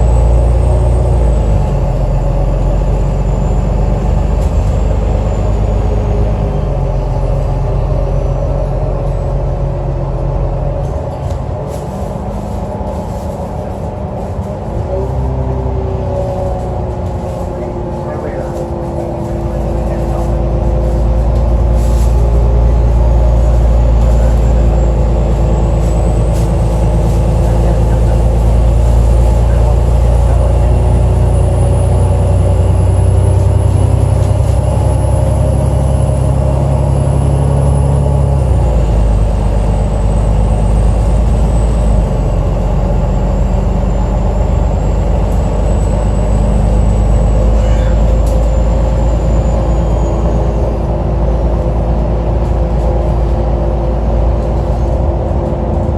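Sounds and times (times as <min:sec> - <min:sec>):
bus engine drone: 0:00.0 - 0:55.9
high-pitched engine whine: 0:00.0 - 0:55.9.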